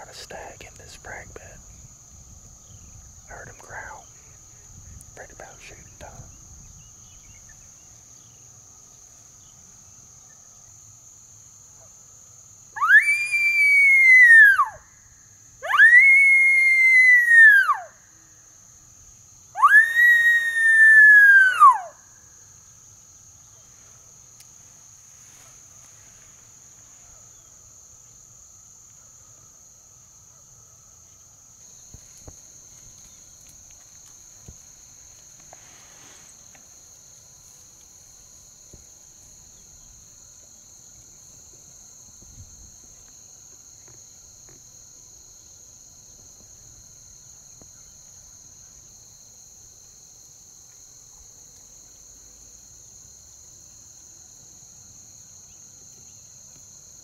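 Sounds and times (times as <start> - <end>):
high-pitched insect chorus: 0.0 - 57.0
lower-pitched insect voice: 0.0 - 57.0.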